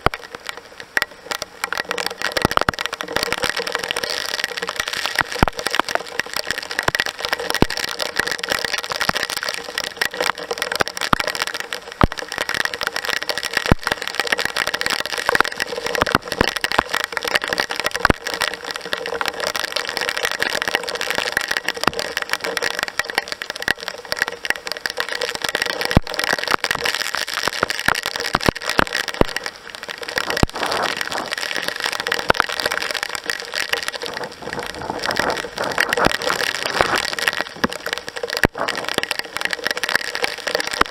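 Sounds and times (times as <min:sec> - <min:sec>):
heavy rain pouring: 0:00.0 - 0:40.9
raindrops ticking close by: 0:00.0 - 0:40.9.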